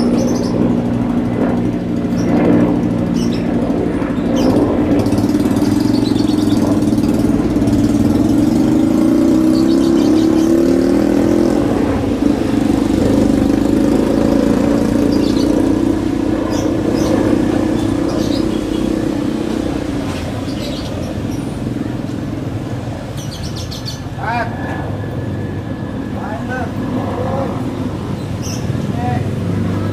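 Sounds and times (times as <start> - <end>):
helicopter taking off: 0.0 - 29.9.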